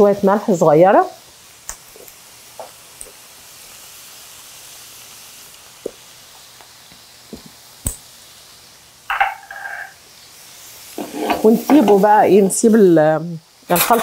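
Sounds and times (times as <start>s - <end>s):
food sizzling in pans: 0.0s - 14.0s.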